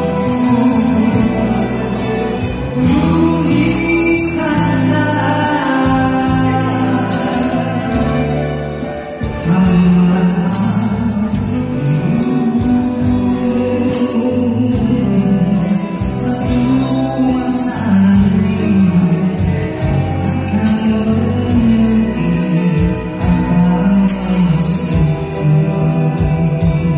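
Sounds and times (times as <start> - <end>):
man singing into microphone: 0.0 - 26.9
small live band playing: 0.0 - 26.9
tambourine jingling: 0.0 - 26.9.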